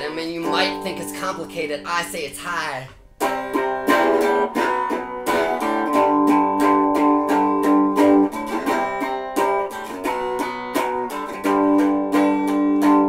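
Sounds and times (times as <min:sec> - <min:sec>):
guitar strumming: 0:00.0 - 0:13.0.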